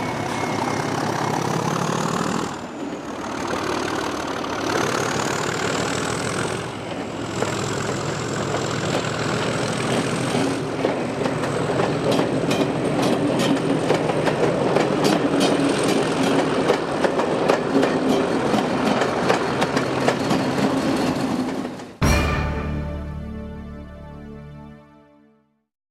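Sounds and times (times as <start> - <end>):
diesel locomotive drone: 0.0 - 24.6
train wheels clicking over rail joints: 0.1 - 22.0.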